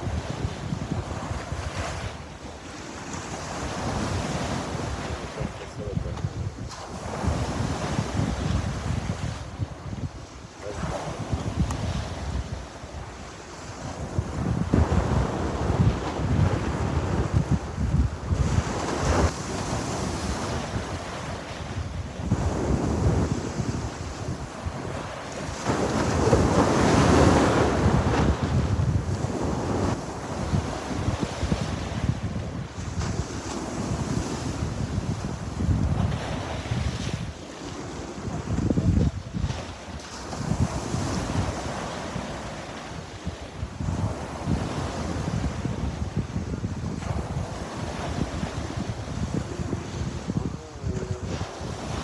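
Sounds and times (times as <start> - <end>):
sea waves washing onto shore: 0.0 - 52.0
wind buffeting microphone: 0.0 - 52.0.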